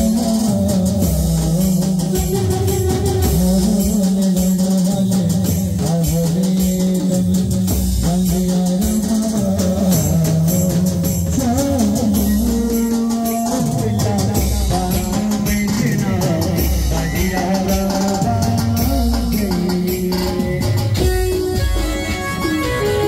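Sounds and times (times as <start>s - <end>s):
drum kit beat: 0.0s - 23.0s
held melody line: 0.0s - 23.0s
live band playing: 0.0s - 23.0s.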